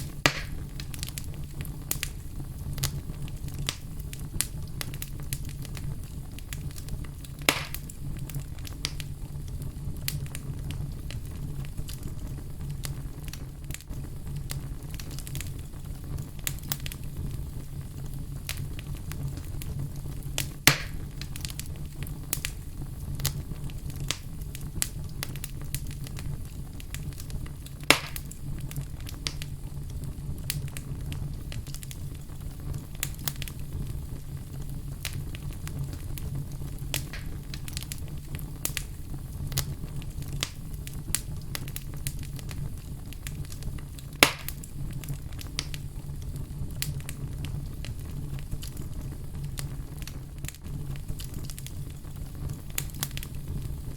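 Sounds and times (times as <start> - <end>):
fire crackling in fireplace: 0.0 - 53.9
loud fire pops: 0.0 - 53.9
low rumble of flames: 0.0 - 53.9.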